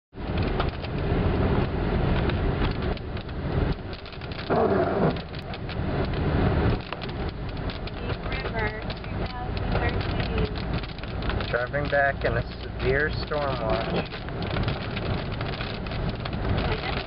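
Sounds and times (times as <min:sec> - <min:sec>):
road and engine rumble: 0:00.1 - 0:17.0
raindrops ticking on windshield: 0:00.2 - 0:17.0.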